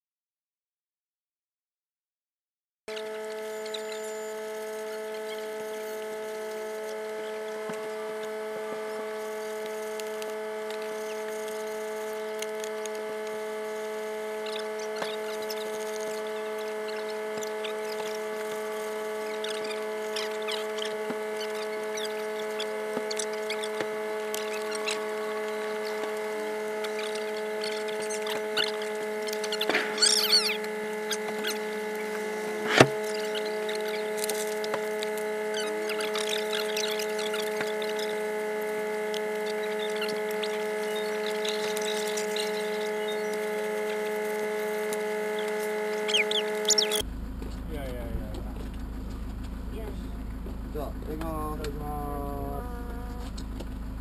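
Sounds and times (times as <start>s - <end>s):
steady hum of even tones: 2.9s - 54.0s.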